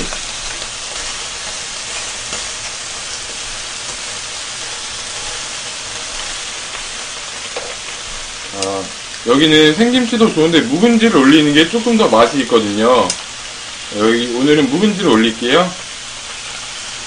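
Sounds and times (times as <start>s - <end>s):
pork sizzling on griddle: 0.0s - 17.0s.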